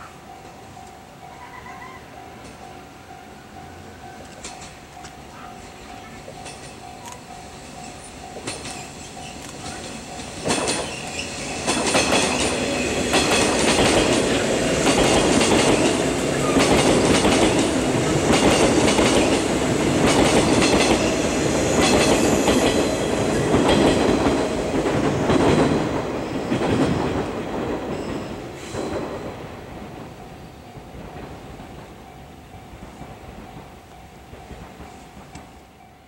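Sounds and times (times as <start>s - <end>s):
train rumble: 0.0s - 36.0s
wheels clacking over rail joints: 4.2s - 35.7s.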